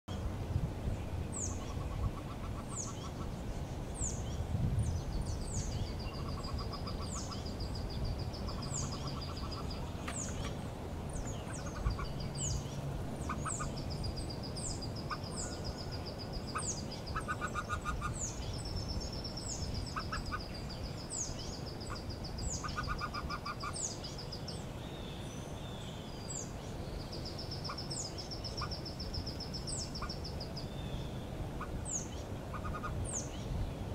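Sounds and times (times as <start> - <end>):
rapid pulsing bird calls: 1.0 - 33.9
bird peeping: 4.0 - 25.1, 25.7 - 33.5.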